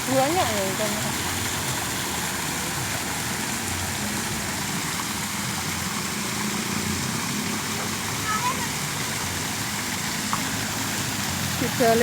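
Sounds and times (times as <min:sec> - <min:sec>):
fountain water rushing: 0:00.0 - 0:12.0.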